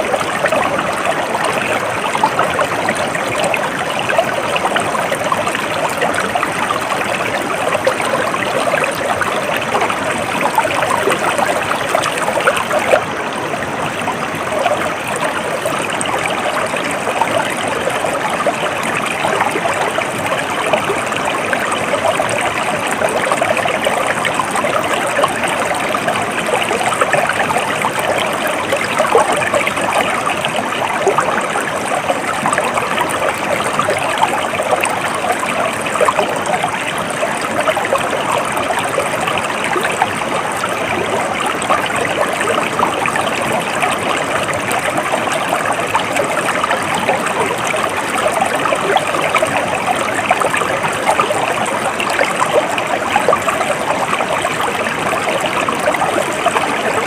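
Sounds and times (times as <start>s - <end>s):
stream flowing and trickling: 0.0s - 57.0s.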